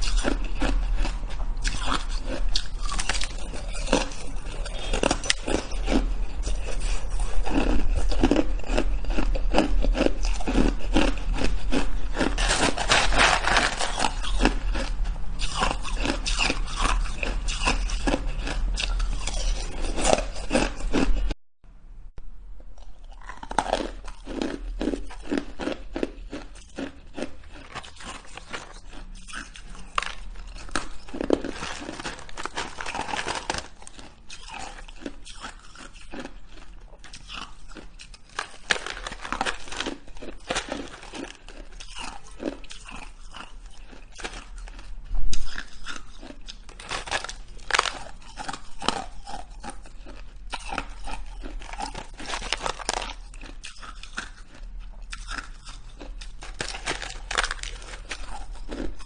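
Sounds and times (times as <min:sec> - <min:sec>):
person crunching ice: 0:00.0 - 0:21.3, 0:23.1 - 0:59.0.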